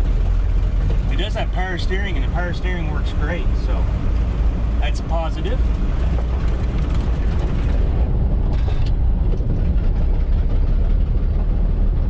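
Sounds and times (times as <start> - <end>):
truck engine drone from cab: 0.0 - 12.0.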